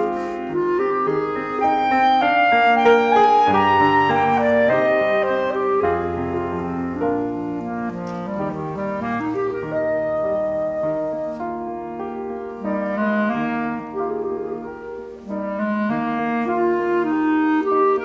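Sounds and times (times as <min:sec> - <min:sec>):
clarinet melody: 0:00.0 - 0:18.0
piano chords: 0:00.0 - 0:18.0.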